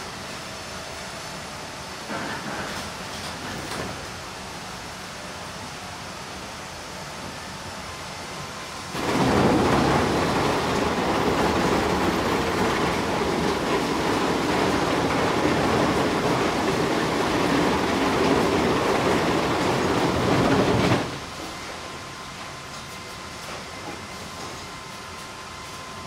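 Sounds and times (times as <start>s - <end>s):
sawmill machinery running: 5.1s - 26.0s.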